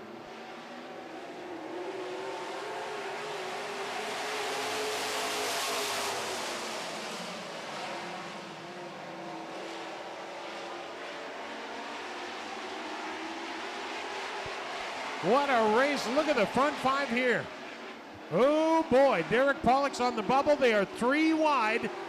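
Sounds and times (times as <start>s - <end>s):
truck engines at full throttle: 0.0s - 22.0s.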